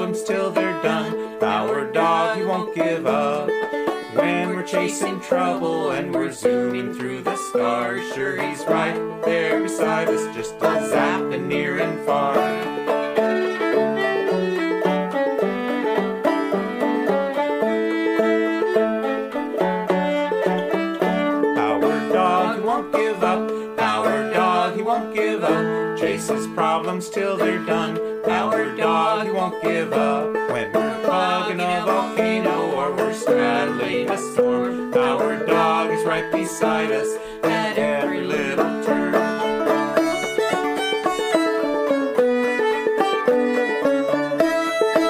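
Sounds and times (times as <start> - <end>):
string band with banjo: 0.0 - 45.0.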